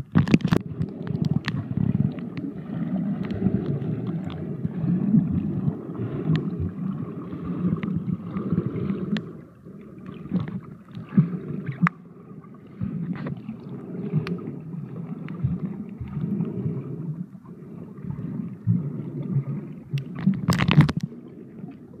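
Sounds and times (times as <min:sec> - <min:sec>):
muffled underwater water rumble: 0:00.0 - 0:22.0.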